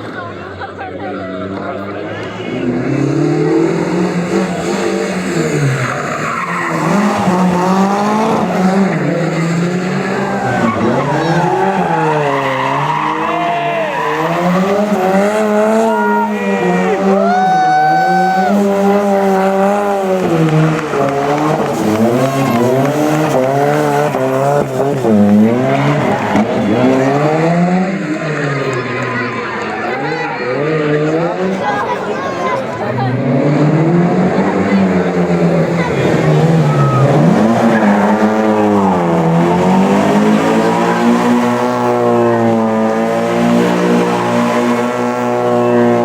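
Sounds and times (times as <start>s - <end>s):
rally car engine revving: 0.0s - 46.0s
tyres skidding: 0.0s - 46.0s.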